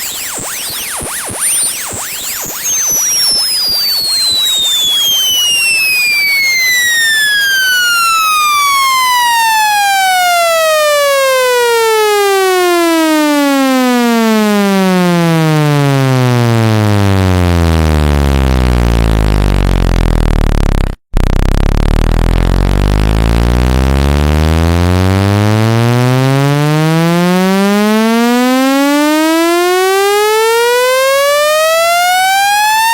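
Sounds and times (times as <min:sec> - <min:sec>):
electronic sine sweep: 0:00.0 - 0:32.9.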